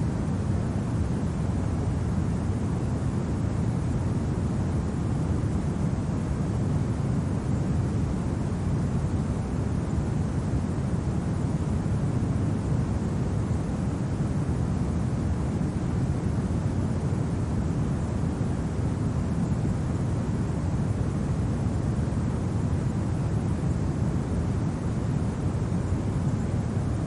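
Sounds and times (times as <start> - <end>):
low steady wind: 0.0 - 27.0.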